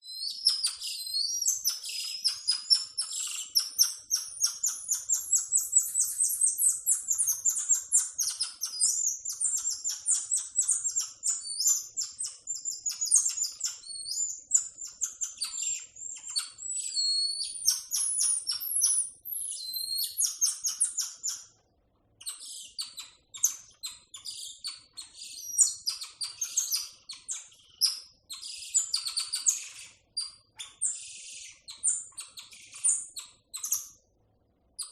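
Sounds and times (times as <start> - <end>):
tamarin monkeys chirping: 0.0 - 21.6, 22.2 - 34.1.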